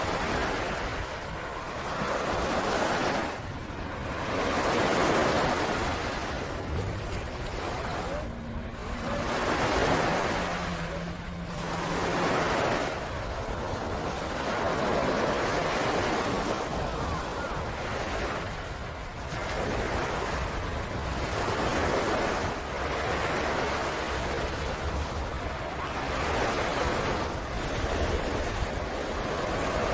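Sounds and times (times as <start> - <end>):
waves breaking on beach: 0.0 - 29.9.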